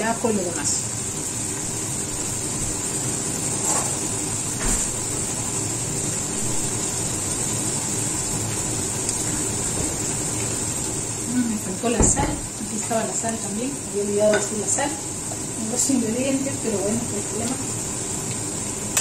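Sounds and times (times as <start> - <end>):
onion frying in oil: 0.0 - 19.0.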